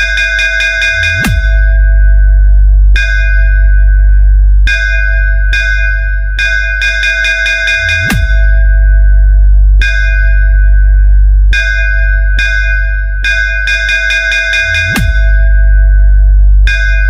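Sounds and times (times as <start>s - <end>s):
bass sweep: 0.0s - 6.9s, 7.8s - 13.8s, 14.6s - 17.0s
deep sub-bass: 0.0s - 17.0s
ringing bell-like metallic hits: 0.0s - 17.0s.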